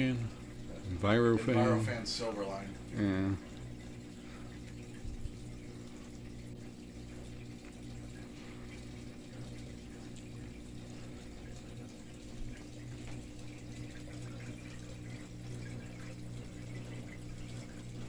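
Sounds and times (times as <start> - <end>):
ceiling fan humming and rushing: 0.0 - 18.0.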